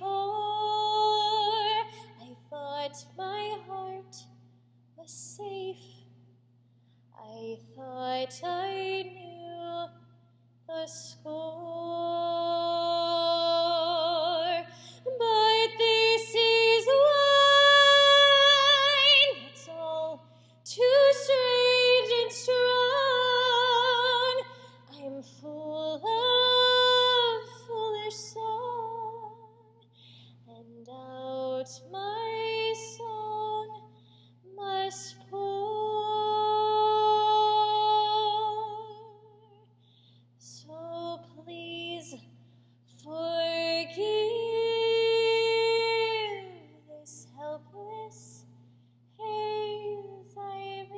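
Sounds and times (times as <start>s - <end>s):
woman singing: 0.0s - 4.4s, 5.0s - 6.1s, 7.2s - 10.1s, 10.7s - 29.8s, 30.5s - 39.7s, 40.4s - 42.3s, 42.9s - 48.5s, 49.2s - 50.9s.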